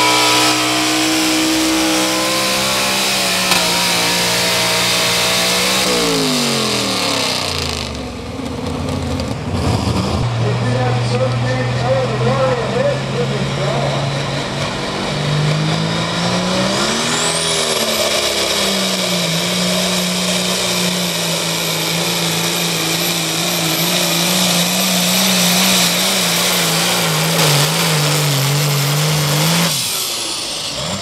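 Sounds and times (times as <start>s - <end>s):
engine revving at high revs: 0.0s - 31.0s.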